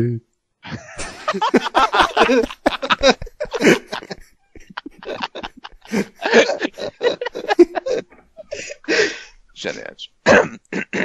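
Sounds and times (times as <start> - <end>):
coughing: 0.7 - 11.0
people laughing: 0.7 - 11.0.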